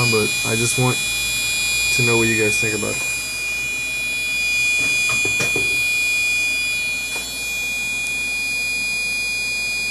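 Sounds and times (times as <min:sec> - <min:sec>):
computer high-pitched whine: 0:00.0 - 0:09.9.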